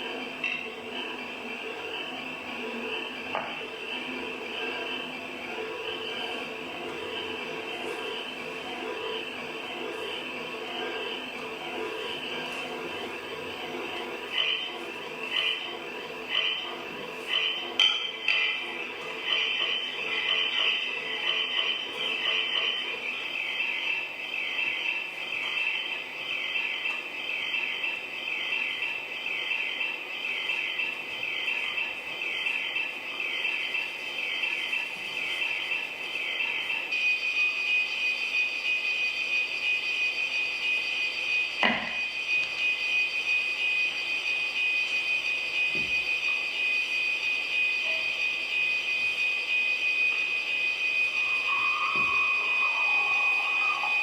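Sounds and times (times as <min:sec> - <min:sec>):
high-pitched chirring drone: 0:00.0 - 0:37.0, 0:41.0 - 0:54.0
steady high whine: 0:00.0 - 0:54.0.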